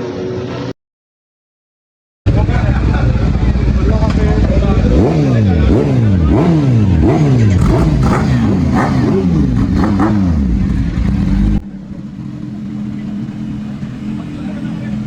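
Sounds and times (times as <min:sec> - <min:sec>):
motorcycle engine idling: 0:02.3 - 0:15.0
motorcycle engine revving: 0:02.3 - 0:15.0.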